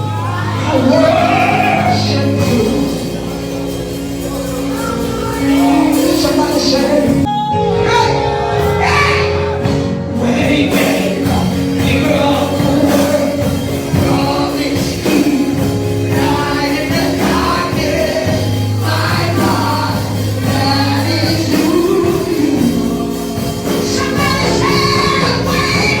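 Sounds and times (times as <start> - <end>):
instrumental backing: 0.0 - 26.0
long held bass notes: 0.0 - 26.0
voices singing gospel song: 0.0 - 26.0.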